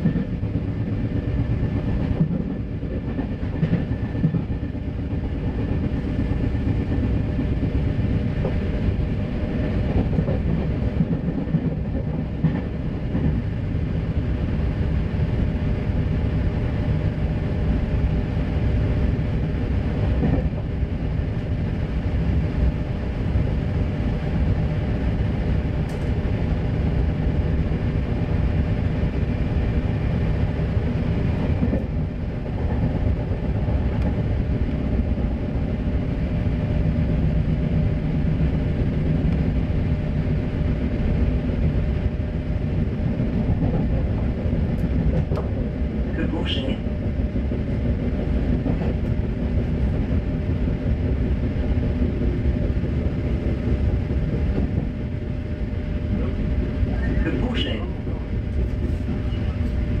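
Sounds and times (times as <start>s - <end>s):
train wheels rumbling on rails: 0.0s - 60.0s.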